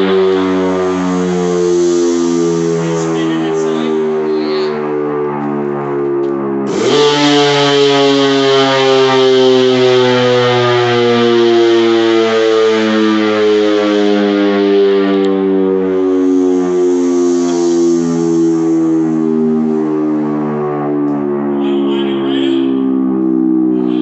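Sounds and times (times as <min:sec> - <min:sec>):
mechanical warning siren: 0:00.0 - 0:24.0.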